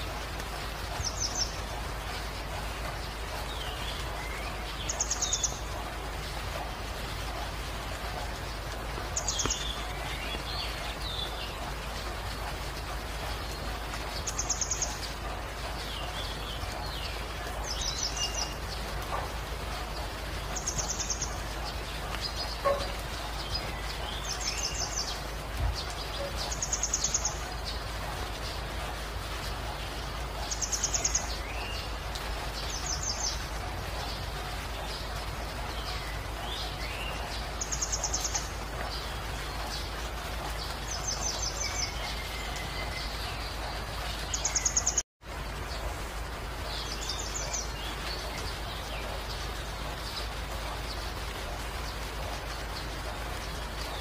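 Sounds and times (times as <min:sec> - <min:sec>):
birds chirping: 0:00.0 - 0:54.0
steady rain hiss: 0:00.0 - 0:54.0.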